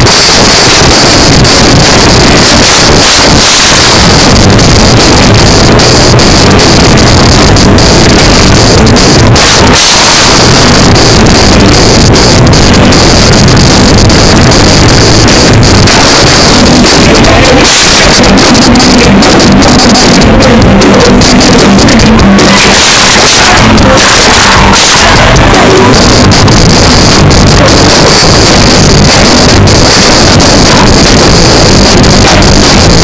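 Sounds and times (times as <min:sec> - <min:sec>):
distorted live rock band: 0:00.0 - 0:33.0
person singing: 0:00.0 - 0:33.0.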